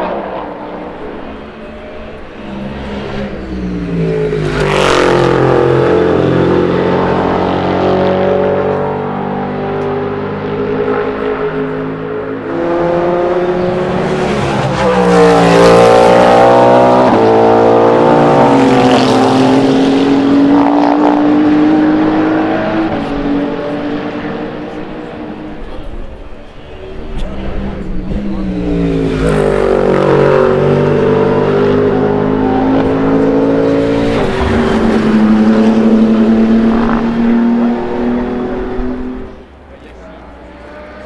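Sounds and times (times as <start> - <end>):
race cars passing at speed: 0.0 - 41.0.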